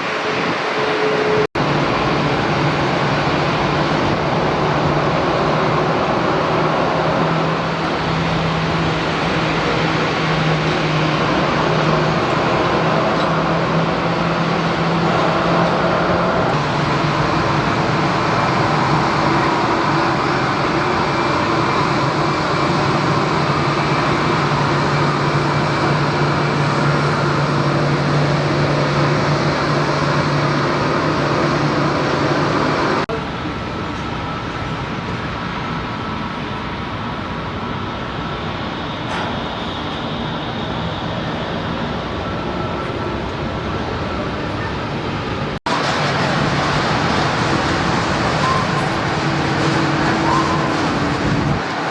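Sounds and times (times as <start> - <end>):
distant jet aircraft noise: 0.0 - 51.9
jet airliner engines roaring: 0.0 - 51.9.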